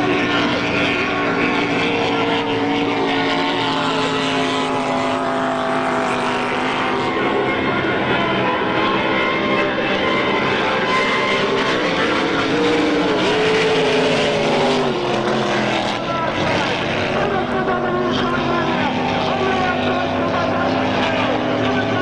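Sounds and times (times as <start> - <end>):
powerboat engines droning: 0.0 - 22.0.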